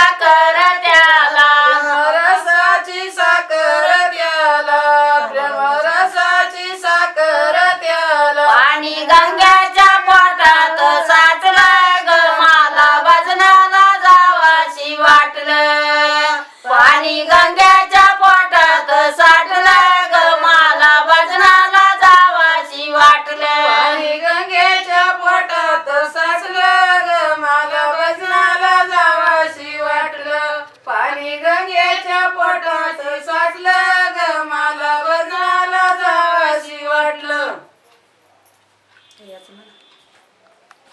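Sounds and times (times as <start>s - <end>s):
women singing devotional song: 0.0s - 37.8s.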